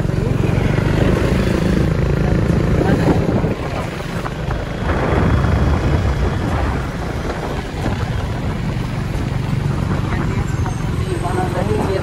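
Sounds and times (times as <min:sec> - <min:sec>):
motorcycle engine running: 0:00.0 - 0:12.0
wind rumbling on microphone: 0:00.0 - 0:12.0.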